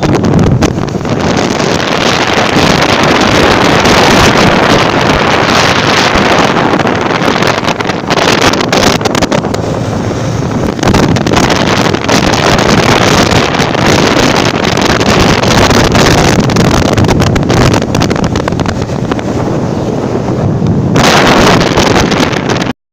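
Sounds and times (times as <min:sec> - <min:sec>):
road traffic: 0:00.0 - 0:22.3
motorcycle engine rumble: 0:00.0 - 0:22.4
wind buffeting microphone: 0:00.0 - 0:22.8.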